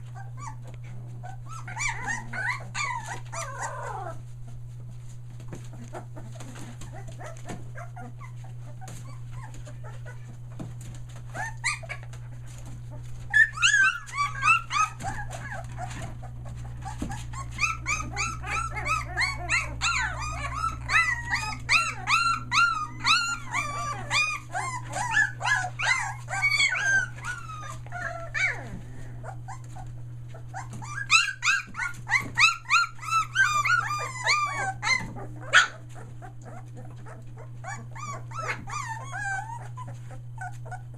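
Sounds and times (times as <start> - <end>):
puppies whining and squealing: 0.0 - 40.9.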